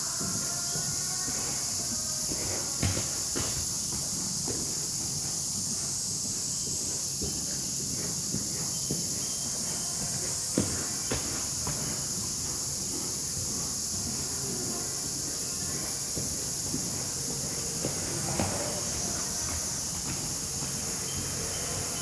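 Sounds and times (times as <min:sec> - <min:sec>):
high insect drone: 0:00.0 - 0:22.0
horse hooves thudding: 0:00.0 - 0:22.0.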